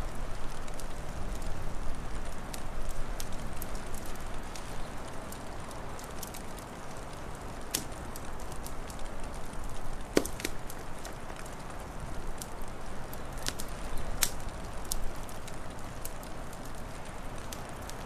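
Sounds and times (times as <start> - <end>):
wood fire crackling: 0.0 - 18.0
sharp pops from fire: 2.5 - 18.0.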